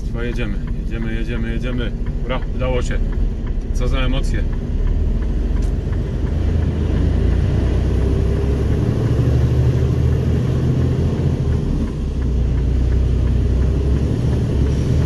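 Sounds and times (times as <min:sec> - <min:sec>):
road rumble: 0:00.0 - 0:15.0
truck diesel engine droning: 0:00.0 - 0:15.0.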